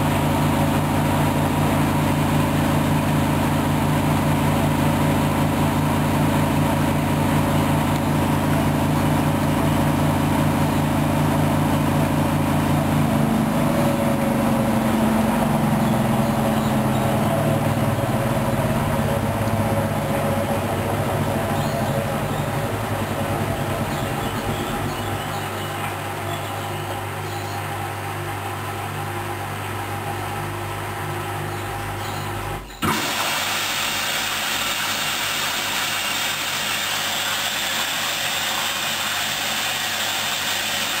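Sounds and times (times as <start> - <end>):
washing machine spinning: 0.0 - 41.0.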